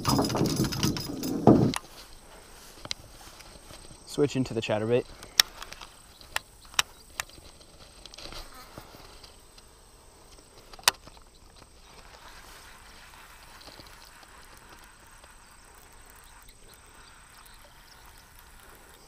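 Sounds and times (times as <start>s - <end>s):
faint outdoor ambience: 0.0s - 19.0s.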